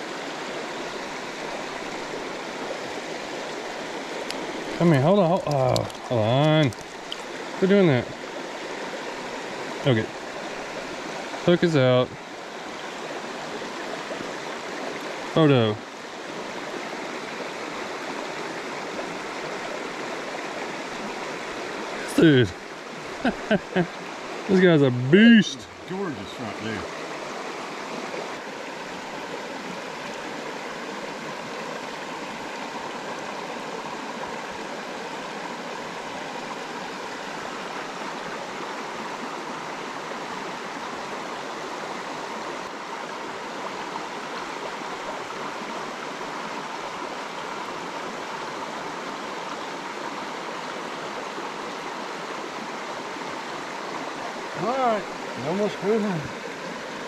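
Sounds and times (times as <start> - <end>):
creek rushing over rocks: 0.0 - 57.0.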